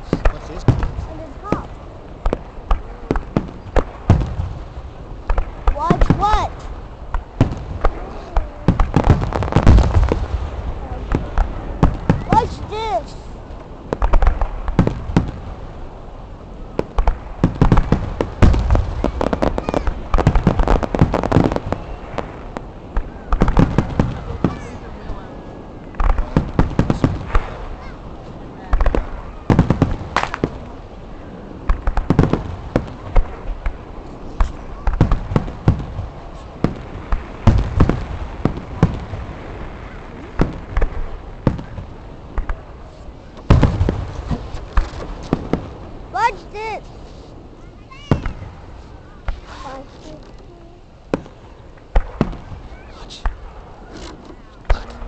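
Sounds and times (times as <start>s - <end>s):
fireworks cracking and banging: 0.0s - 55.0s.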